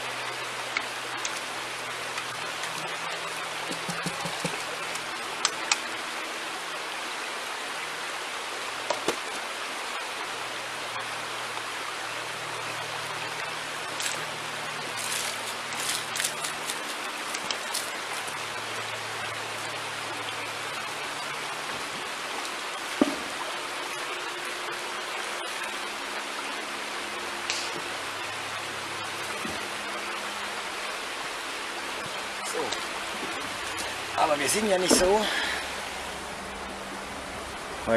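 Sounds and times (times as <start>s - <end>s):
creek water rushing: 0.0s - 37.9s.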